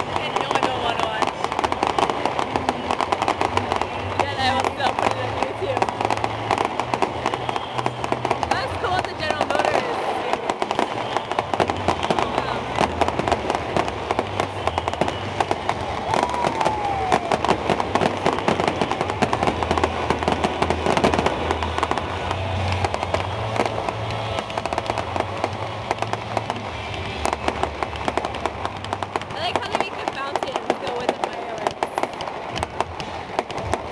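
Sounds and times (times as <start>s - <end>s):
fireworks crackling and banging: 0.0s - 33.9s.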